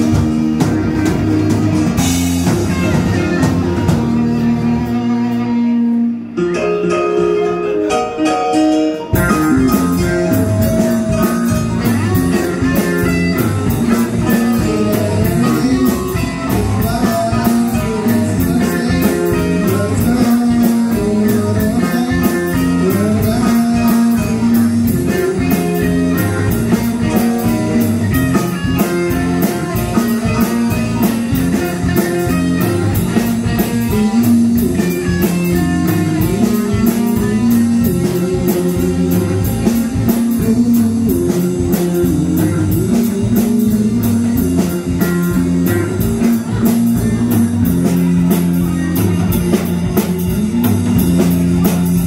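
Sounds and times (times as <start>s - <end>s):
electric guitar: 0.0s - 52.0s
live rock band playing: 0.0s - 52.0s.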